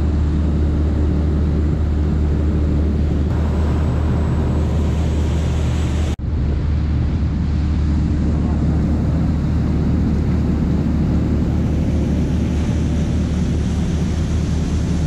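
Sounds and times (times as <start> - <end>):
boat engine droning: 0.0 - 15.0
wind and water rushing: 0.3 - 15.0.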